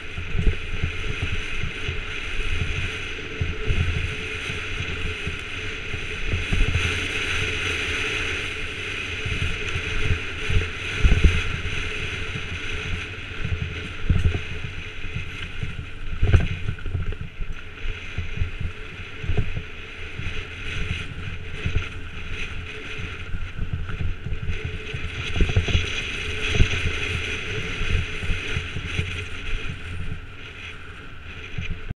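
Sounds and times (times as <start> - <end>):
bike tyre rumble: 0.0 - 31.9
wind rushing over microphone: 0.0 - 31.9.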